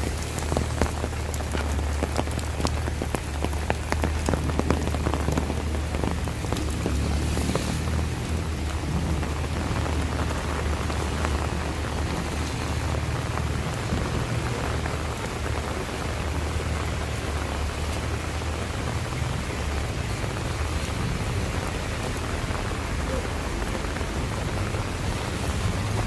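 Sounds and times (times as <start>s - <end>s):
heavy rain spattering: 0.0s - 26.0s.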